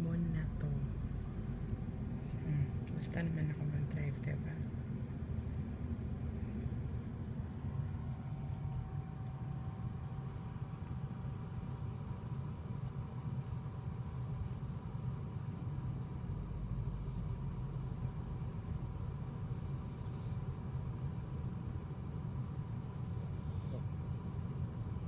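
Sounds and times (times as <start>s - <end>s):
car cabin rumble while driving: 0.0s - 23.1s
faint steady tones: 0.0s - 25.0s.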